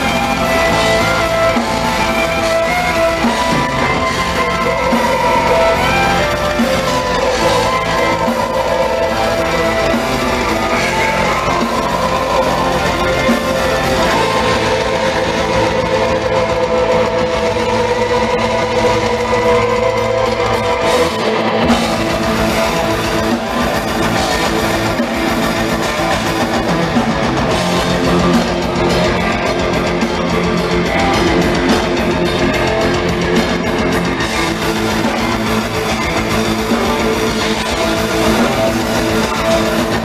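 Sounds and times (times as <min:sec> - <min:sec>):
fast driving drumming: 0:00.0 - 0:40.0
heavy metal band playing live: 0:00.0 - 0:40.0.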